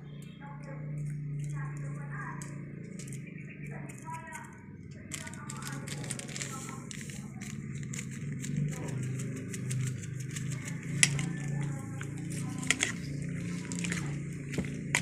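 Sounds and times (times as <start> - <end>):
low steady hum: 0.0 - 15.0
wet squishing of fish: 0.8 - 15.0.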